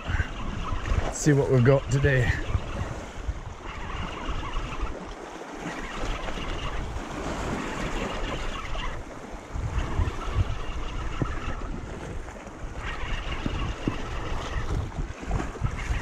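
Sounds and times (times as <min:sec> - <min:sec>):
sea washing: 0:00.0 - 0:16.0
wind buffeting microphone: 0:00.0 - 0:16.0.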